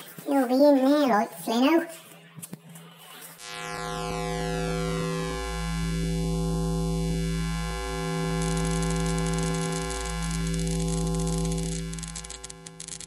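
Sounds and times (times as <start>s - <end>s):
synthesizer drone: 2.2s - 13.0s.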